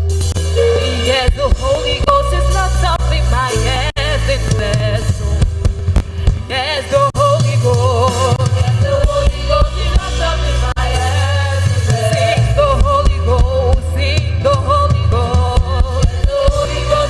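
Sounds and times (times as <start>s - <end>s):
bass: 0.0s - 17.0s
drums: 0.0s - 17.0s
keyboard: 0.0s - 17.0s
gospel singing: 0.5s - 5.5s, 6.2s - 17.0s.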